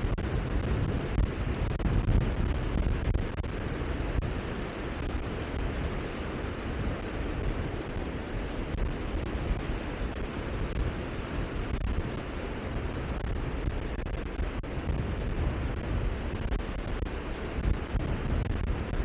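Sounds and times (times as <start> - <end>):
wind and sea rushing: 0.0 - 19.0
wind buffeting microphone: 0.0 - 19.0.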